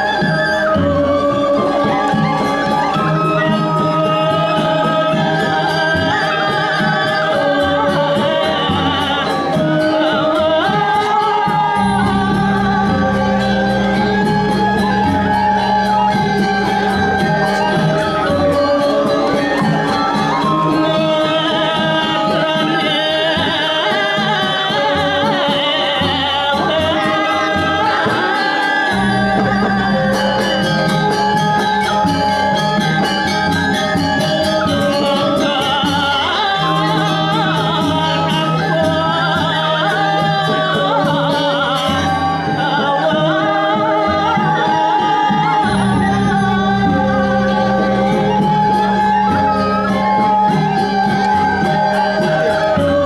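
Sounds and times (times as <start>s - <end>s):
gamelan metallophones ringing: 0.0s - 53.0s.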